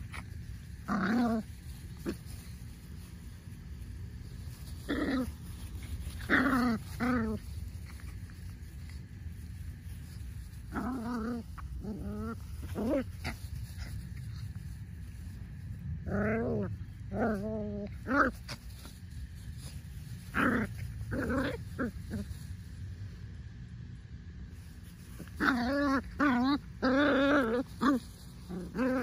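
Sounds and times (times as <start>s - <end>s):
puppies growling: 0.0s - 22.7s, 24.6s - 29.0s
steady low rumble: 0.0s - 29.0s.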